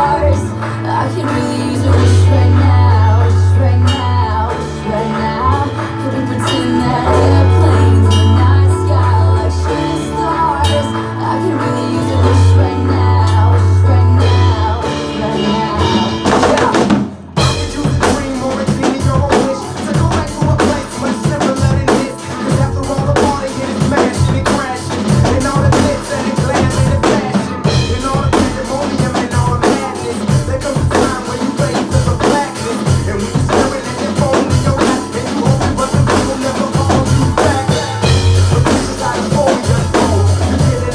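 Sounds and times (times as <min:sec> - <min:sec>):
drum kit beat: 0:00.0 - 0:40.9
pop song with held bass notes: 0:00.0 - 0:40.9.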